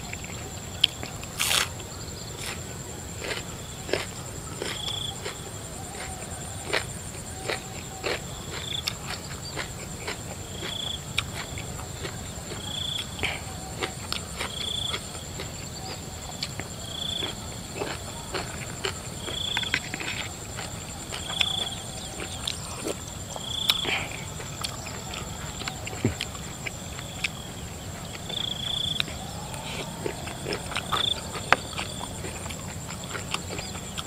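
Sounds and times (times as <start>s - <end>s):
cricket trill: 0.0s - 34.0s
crunchy chewing and lip-smacking: 0.0s - 34.0s.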